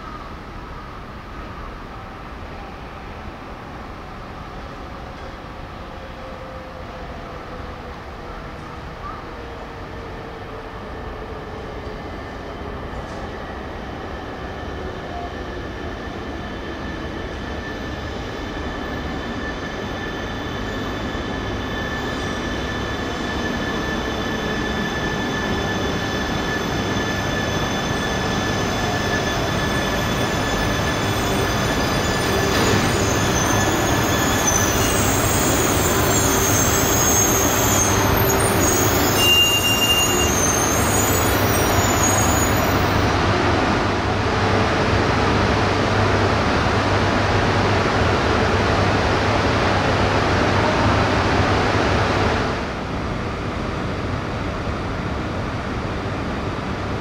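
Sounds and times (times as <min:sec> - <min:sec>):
train high whines: 0:00.0 - 0:57.0
train wheels rumbling on rail: 0:07.6 - 0:57.0.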